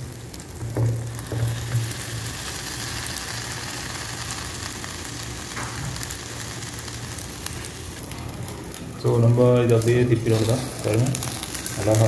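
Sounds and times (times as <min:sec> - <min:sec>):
omelette sizzling in oil: 0:00.0 - 0:12.0.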